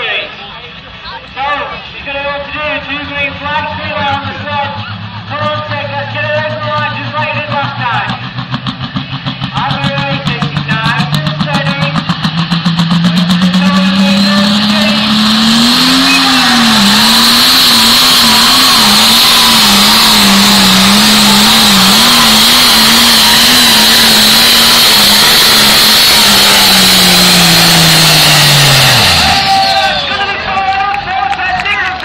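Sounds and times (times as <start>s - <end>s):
steady high whine: 0.0s - 31.0s
tractor engine revving under load: 2.2s - 30.4s.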